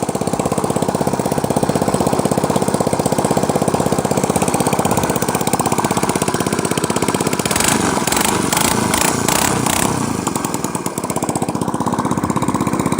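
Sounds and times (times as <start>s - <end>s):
scooter engine open-exhaust popping: 0.0s - 12.9s.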